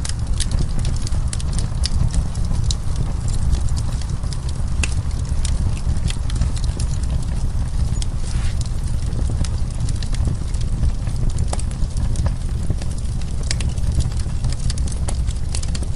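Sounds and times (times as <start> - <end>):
burning wood crackling: 0.0 - 15.9
low rumble of flames: 0.0 - 15.9.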